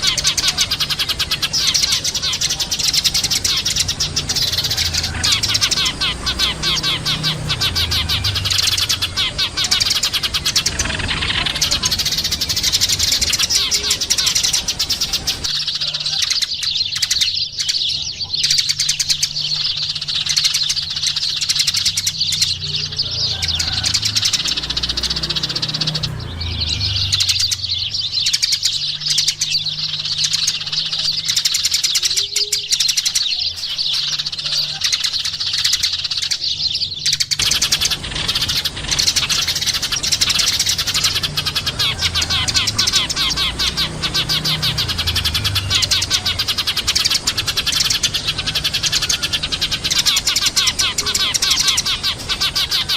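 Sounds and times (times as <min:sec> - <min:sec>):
sparrows chirping: 0:00.0 - 0:52.9.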